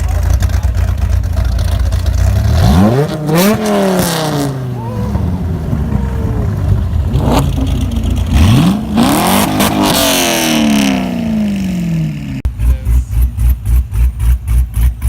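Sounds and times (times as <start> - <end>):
car engine revving: 0.0 - 15.0
deep pulsing engine: 0.0 - 15.0.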